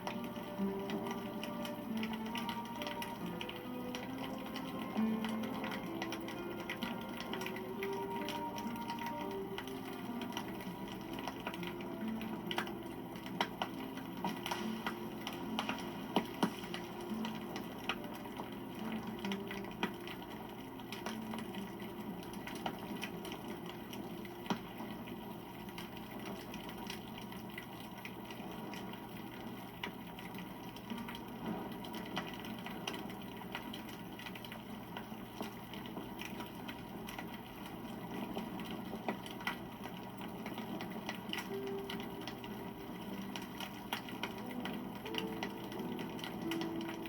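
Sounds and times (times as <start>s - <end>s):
burning wood crackling and popping: 0.0s - 47.0s
campfire flame noise: 0.0s - 47.0s.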